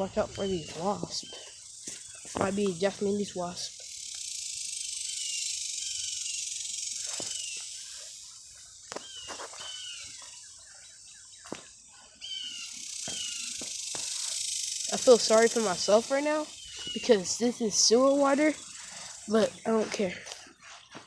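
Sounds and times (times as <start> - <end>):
insects buzzing: 0.0 - 21.0
falling bird chirps: 0.3 - 21.0.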